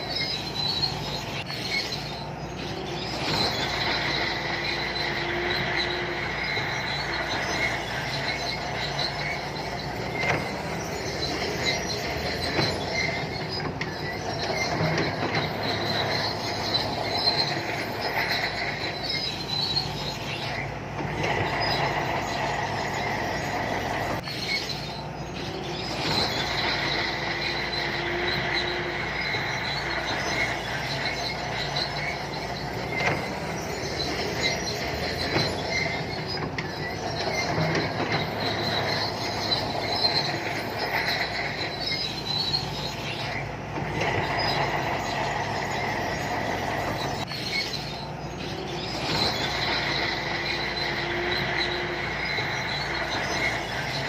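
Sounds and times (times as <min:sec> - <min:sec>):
diesel engine running: 0:00.0 - 0:54.0
steel tracks squealing and clattering: 0:00.0 - 0:54.0.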